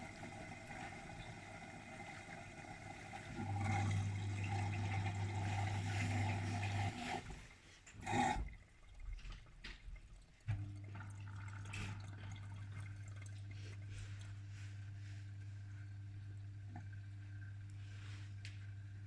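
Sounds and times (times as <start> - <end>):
washing machine hum: 0.0 - 19.0
water trickling and sloshing: 0.0 - 19.0.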